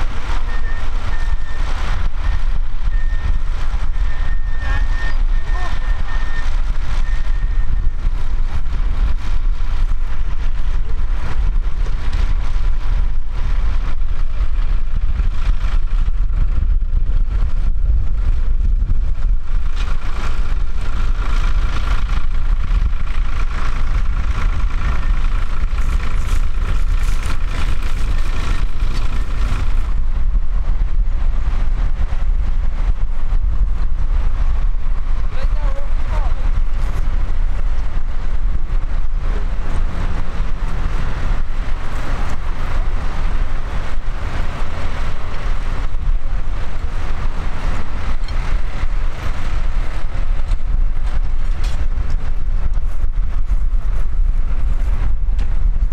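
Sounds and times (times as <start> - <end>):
tractor engines running under load: 0.0 - 55.9.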